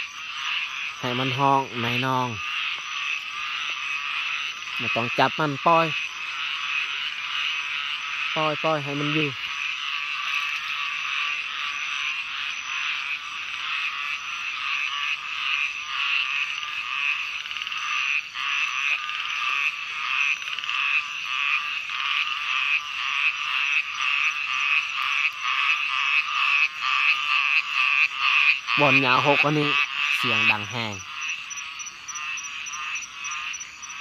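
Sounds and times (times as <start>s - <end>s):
chorus of frogs croaking: 0.0s - 34.0s.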